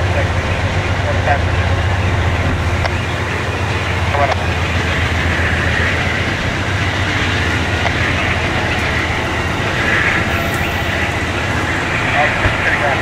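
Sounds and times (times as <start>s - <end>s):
train cars rolling past: 0.0s - 13.0s.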